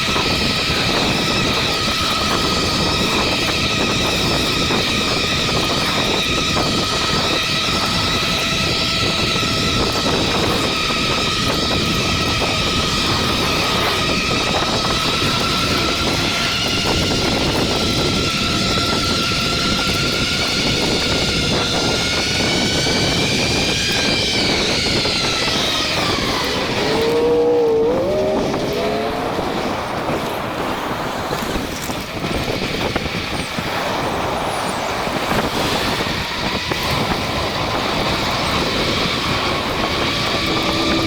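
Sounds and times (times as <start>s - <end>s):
electric hub motor whine: 0.0s - 41.0s
wind and tyre rush: 0.0s - 41.0s.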